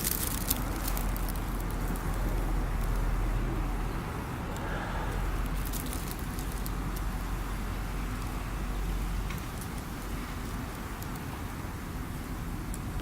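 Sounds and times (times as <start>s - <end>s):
steady low rumble: 0.0s - 11.0s
campfire crackling: 0.0s - 13.0s.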